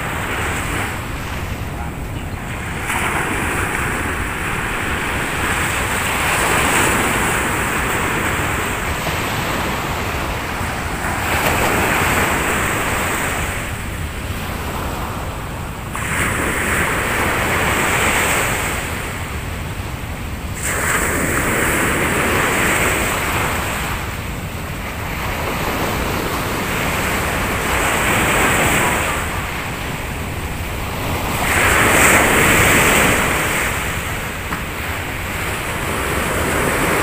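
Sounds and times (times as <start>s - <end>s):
sea waves breaking on sand: 0.0s - 37.0s
wind buffeting microphone: 0.0s - 37.0s.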